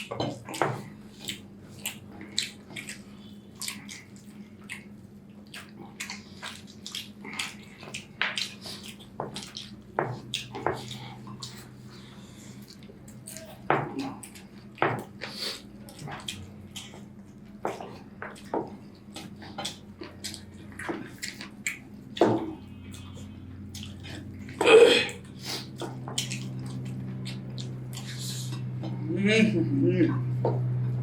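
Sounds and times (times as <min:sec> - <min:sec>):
mouths chewing and smacking: 0:00.0 - 0:29.1
steady low hum: 0:00.0 - 0:31.0.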